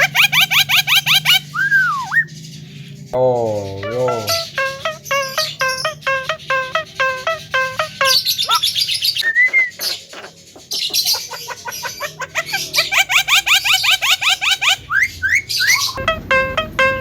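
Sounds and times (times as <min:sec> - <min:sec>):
myna calling: 0:00.0 - 0:02.2, 0:03.2 - 0:17.0.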